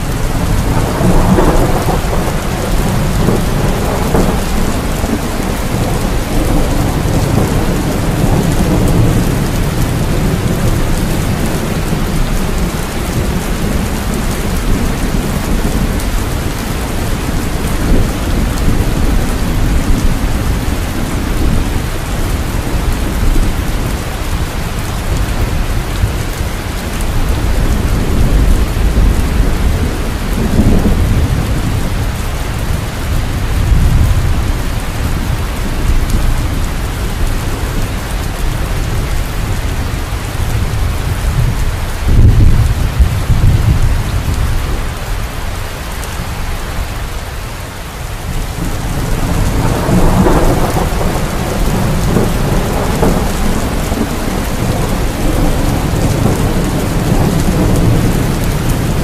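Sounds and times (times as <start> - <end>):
rolling thunder: 0.0 - 45.1, 48.2 - 59.0
heavy rain: 0.0 - 59.0.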